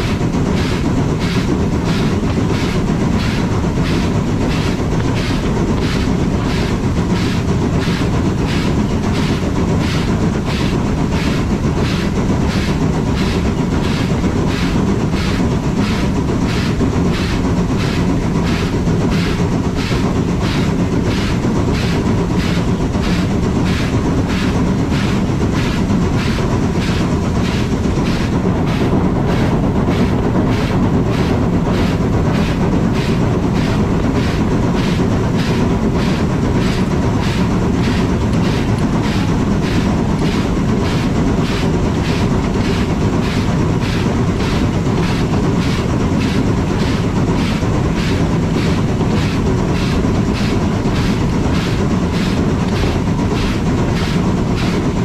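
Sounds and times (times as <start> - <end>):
steam locomotive chuffing: 0.0 - 55.0
train running rumble: 0.0 - 55.0.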